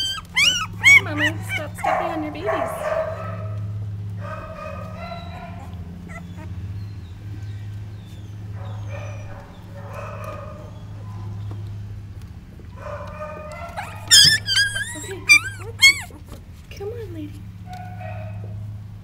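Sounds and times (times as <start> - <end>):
puppies whining: 0.0 - 11.9, 12.5 - 16.7.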